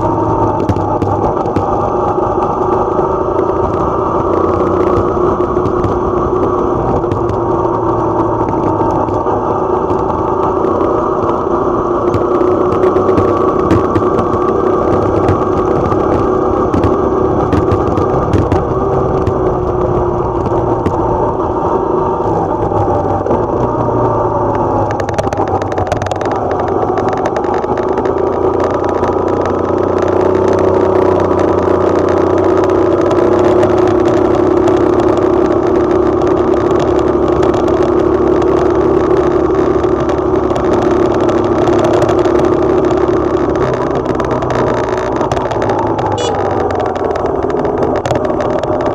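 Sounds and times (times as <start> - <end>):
motorcycle engine running: 0.0 - 48.9
road noise: 0.0 - 48.9
rushing wind: 0.0 - 48.9.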